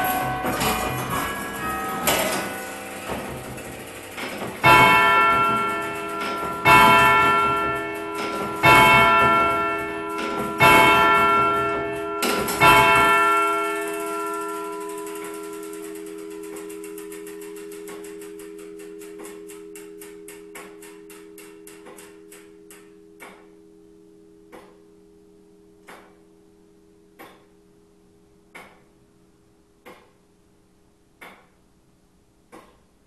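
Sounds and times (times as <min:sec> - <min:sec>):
faint clock ticking: 0:00.0 - 0:25.2, 0:25.8 - 0:26.4, 0:27.1 - 0:27.6, 0:28.5 - 0:29.0, 0:29.8 - 0:30.3, 0:31.1 - 0:31.6, 0:32.4 - 0:33.0
clock bell striking: 0:00.0 - 0:27.9.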